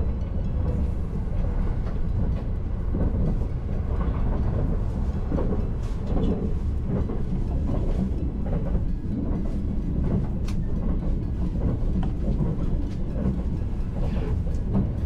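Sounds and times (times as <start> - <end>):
train wheels rumbling on rail: 0.0 - 15.0
track joint clacks: 0.2 - 15.0.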